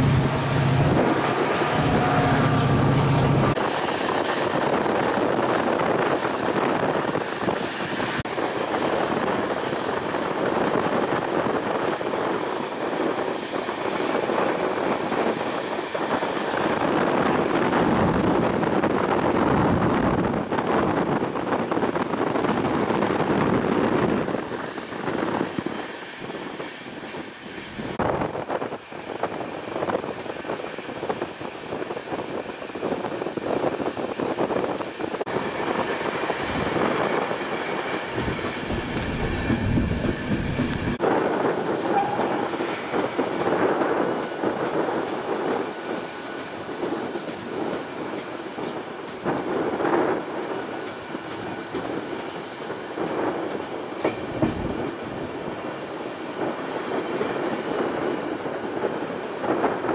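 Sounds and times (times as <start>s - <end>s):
rushing wind: 0.0s - 59.9s
train wheels rolling: 0.0s - 59.9s.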